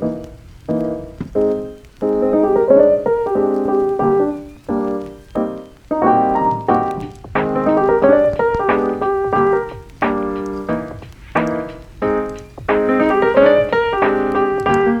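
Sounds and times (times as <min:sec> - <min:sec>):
instrumental piano music: 0:00.0 - 0:15.0.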